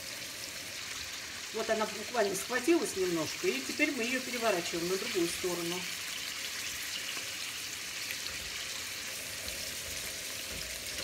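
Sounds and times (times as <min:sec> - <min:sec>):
liver sizzling in a frying pan: 0:00.0 - 0:11.0.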